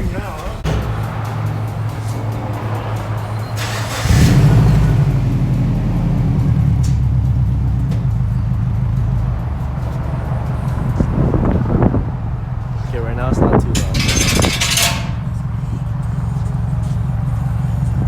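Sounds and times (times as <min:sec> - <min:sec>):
car engine exhaust rumble: 0:00.0 - 0:18.0.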